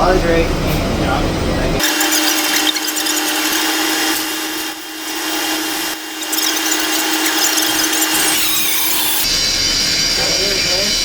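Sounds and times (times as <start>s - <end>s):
welder hum: 1.8s - 11.0s
welding arc crackling: 1.8s - 11.0s.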